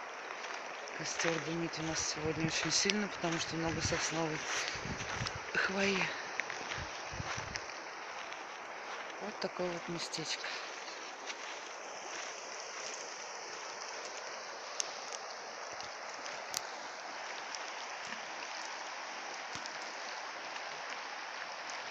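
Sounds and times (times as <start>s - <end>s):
river rushing over rocks: 0.0s - 21.9s.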